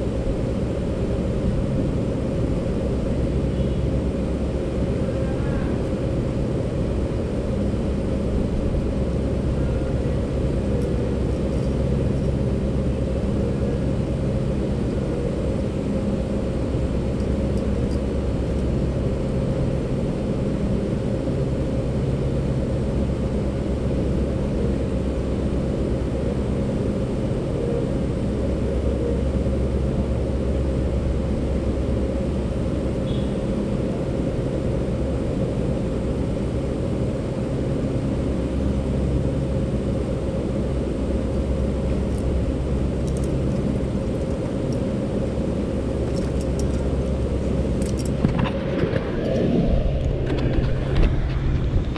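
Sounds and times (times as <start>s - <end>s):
faint humming tones: 0.0s - 51.9s
steady low rumble: 0.0s - 51.9s.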